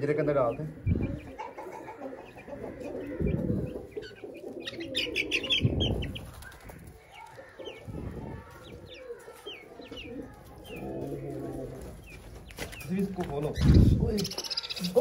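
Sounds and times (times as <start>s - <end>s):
chickens clucking: 0.0s - 15.0s
small birds chirping: 0.0s - 15.0s.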